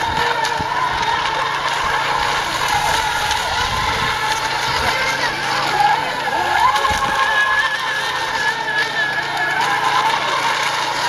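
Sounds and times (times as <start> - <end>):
electric boat motors whining: 0.0 - 11.0.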